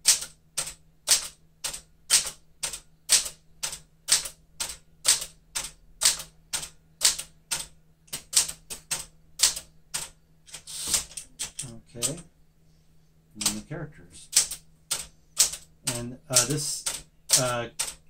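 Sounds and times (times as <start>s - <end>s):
typewriter keys clacking: 0.0s - 12.2s, 13.4s - 13.7s, 14.3s - 18.0s.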